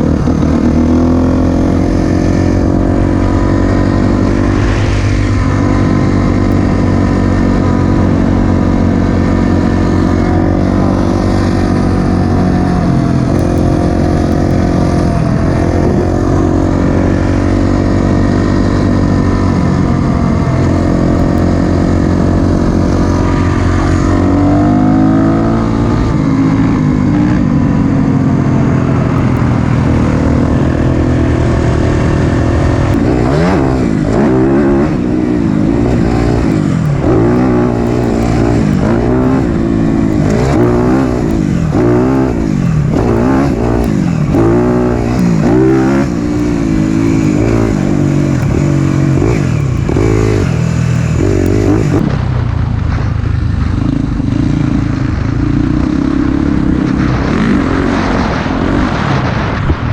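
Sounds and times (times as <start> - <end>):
dirt bike engine revving: 0.0 - 52.4, 53.6 - 59.9.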